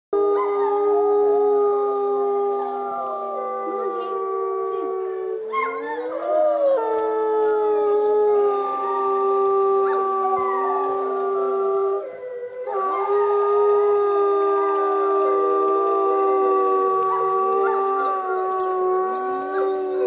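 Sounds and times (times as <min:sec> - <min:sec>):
wolves howling in chorus: 0:00.2 - 0:20.0.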